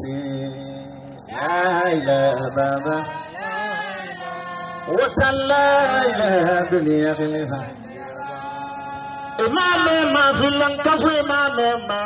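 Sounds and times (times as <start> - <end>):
man singing a religious chant: 0.0 - 12.0.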